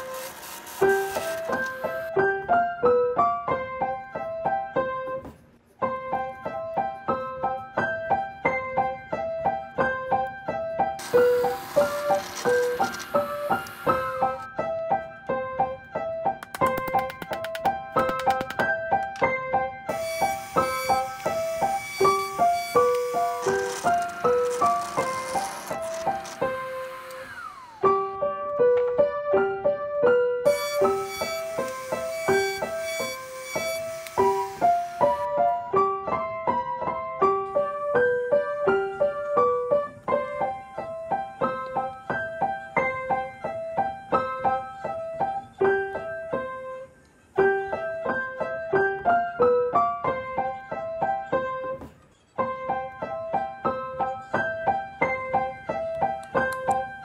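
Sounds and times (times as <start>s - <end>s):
piano music: 0.0s - 5.2s, 5.8s - 51.8s.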